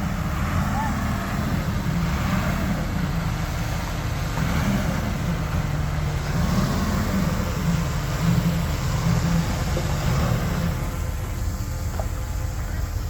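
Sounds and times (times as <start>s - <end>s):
diesel machinery engine drone: 0.0s - 13.0s.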